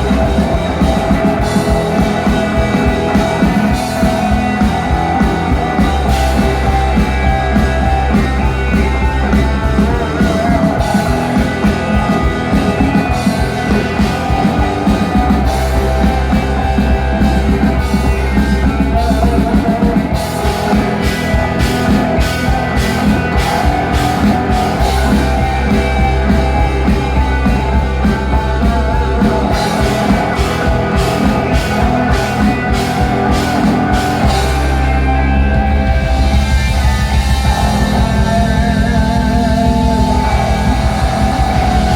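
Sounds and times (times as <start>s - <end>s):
bass guitar: 0.0s - 41.9s
drum beat: 0.0s - 41.9s
electric guitar: 0.0s - 41.9s.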